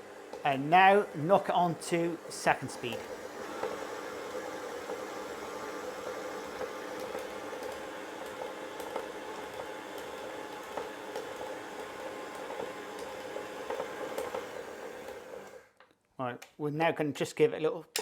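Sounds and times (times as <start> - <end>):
stand mixer running: 0.0 - 15.7.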